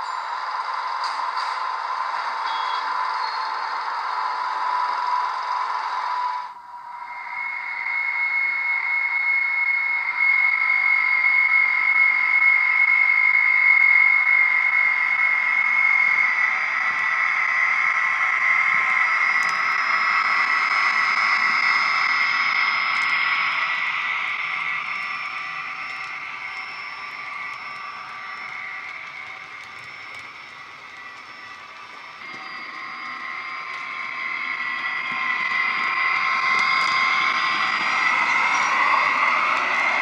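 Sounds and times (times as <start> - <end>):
high electric locomotive whine: 0.0 - 40.0.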